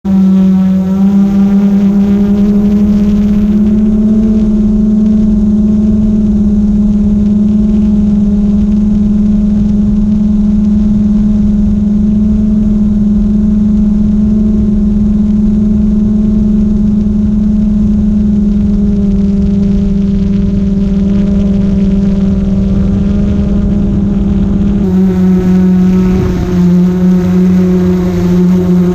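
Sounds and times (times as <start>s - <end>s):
drone propellers humming: 0.0s - 28.9s
wind buffeting microphone: 1.4s - 28.9s.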